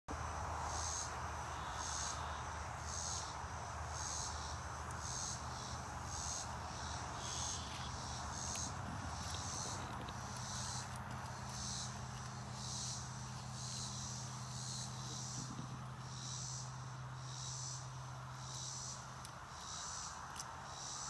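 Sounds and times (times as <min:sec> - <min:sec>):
background hiss and low hum: 0:00.1 - 0:21.0
insects buzzing: 0:00.1 - 0:21.0.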